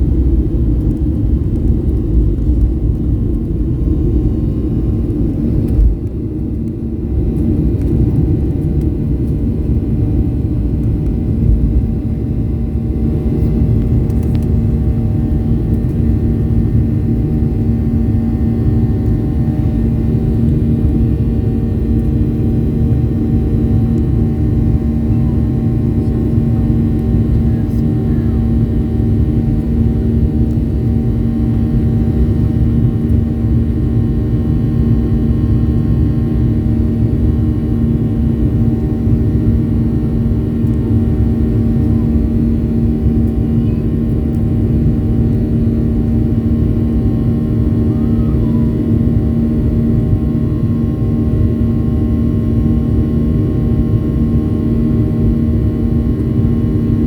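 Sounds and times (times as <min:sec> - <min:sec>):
jet engine cabin drone: 0:00.0 - 0:57.0.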